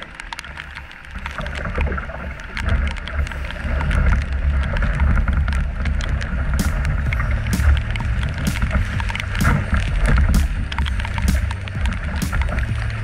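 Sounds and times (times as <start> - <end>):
deep churning rumble: 0.0 - 13.0
small ticks: 0.0 - 13.0
whitewater slapping against canoe: 0.0 - 13.0.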